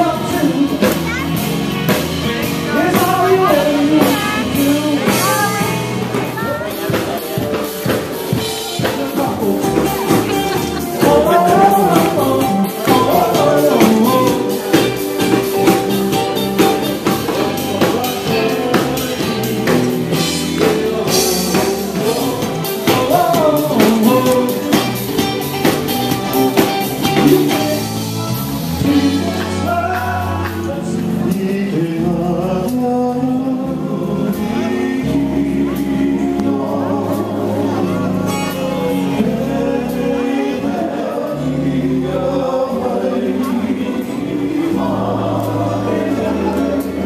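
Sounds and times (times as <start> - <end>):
live band music: 0.0 - 47.0
person singing: 2.4 - 47.0.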